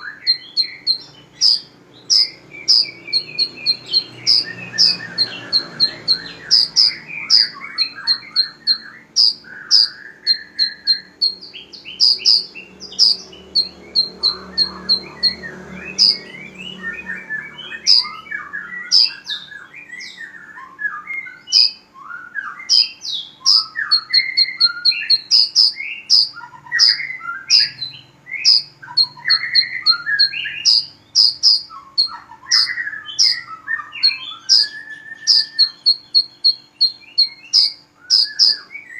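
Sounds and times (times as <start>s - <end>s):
birds chattering: 0.0s - 38.9s
songbirds singing high chip notes: 0.0s - 38.9s.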